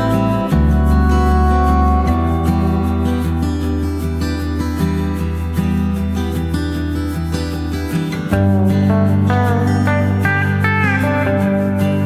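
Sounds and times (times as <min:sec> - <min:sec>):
acoustic guitar: 0:00.0 - 0:12.0
low bass: 0:00.0 - 0:12.0.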